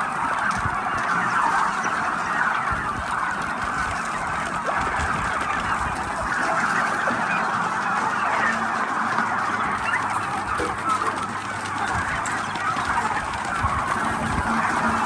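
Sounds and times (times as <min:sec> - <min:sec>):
flock of turkeys calling: 0:00.0 - 0:15.0.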